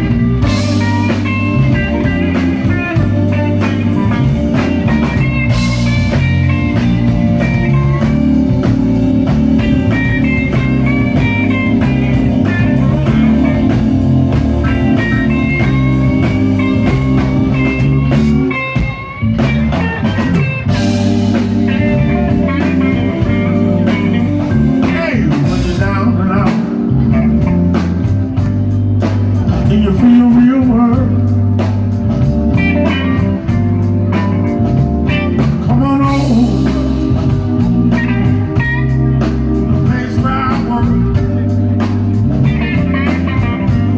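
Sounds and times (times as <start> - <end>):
blues band playing: 0.0 - 43.9
lead electric guitar: 0.0 - 43.9.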